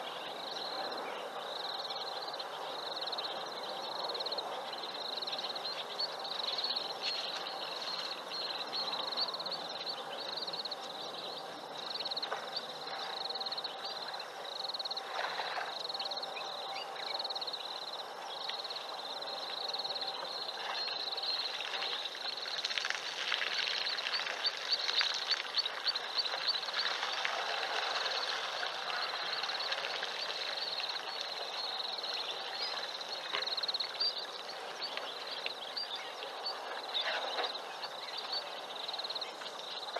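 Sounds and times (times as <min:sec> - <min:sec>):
night insects trilling: 0:00.0 - 0:39.9
outdoor background noise: 0:00.0 - 0:39.9.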